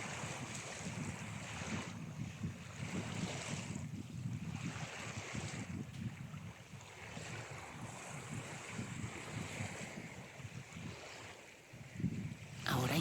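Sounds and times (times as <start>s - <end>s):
ocean waves washing on shore: 0.0s - 13.0s.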